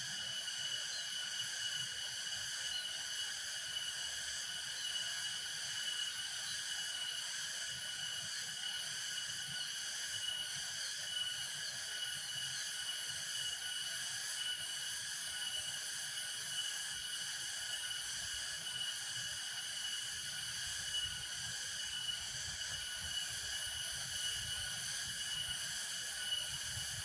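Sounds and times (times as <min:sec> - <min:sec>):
insect chorus buzzing: 0:00.0 - 0:27.0.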